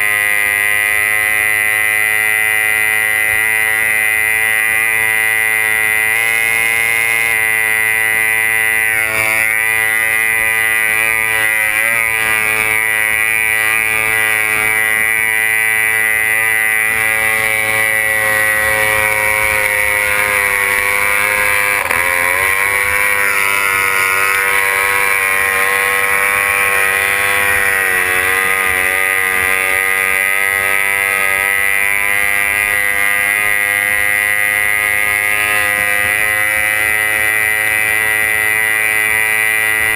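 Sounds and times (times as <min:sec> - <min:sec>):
outboard engine high-pitched drone: 0:00.0 - 0:39.9.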